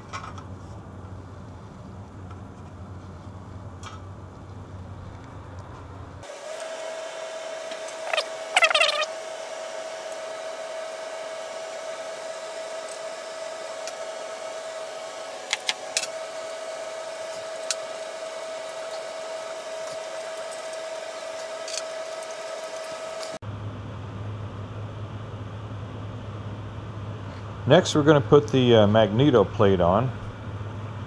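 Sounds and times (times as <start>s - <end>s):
whirring hum with whine: 0.0s - 31.0s.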